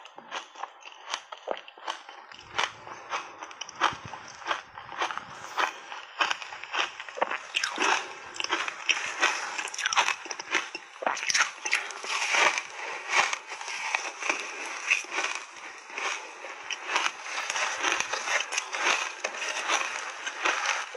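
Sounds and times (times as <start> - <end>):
crunching shaved ice: 0.0 - 20.9.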